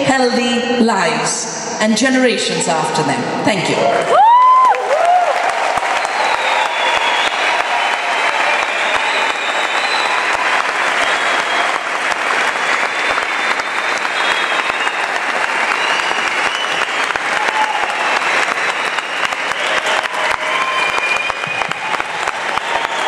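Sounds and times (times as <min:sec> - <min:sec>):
audience applauding: 0:04.0 - 0:23.0.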